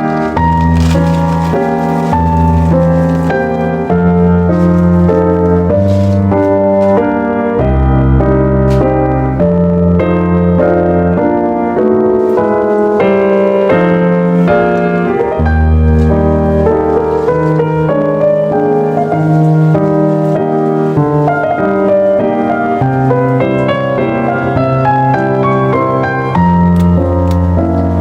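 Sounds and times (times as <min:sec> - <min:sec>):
gentle piano piece: 0:00.0 - 0:28.0.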